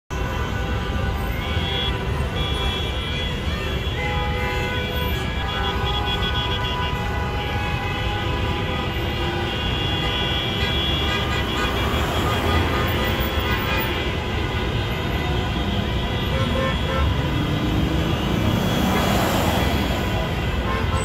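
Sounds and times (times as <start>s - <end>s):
car horns honking: 0.1s - 21.0s
slow-moving traffic rumble: 0.1s - 21.0s.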